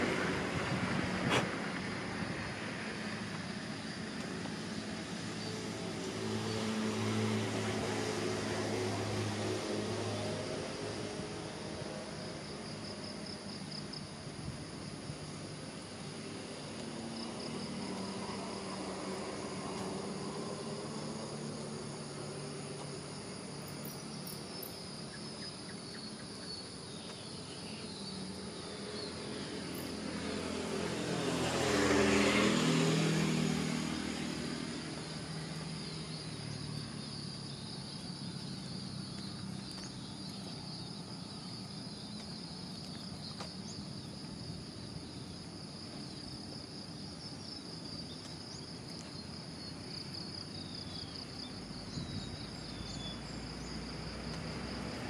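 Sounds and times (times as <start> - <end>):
motor vehicle passing by: 0.0 - 26.3, 27.3 - 55.0
insects chirring: 0.0 - 55.0.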